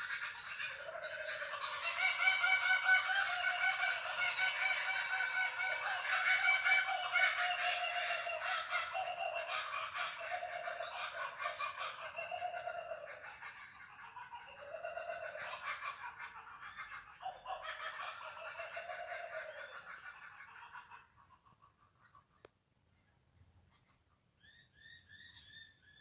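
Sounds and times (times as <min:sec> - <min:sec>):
kookaburras calling: 0:00.0 - 0:22.5.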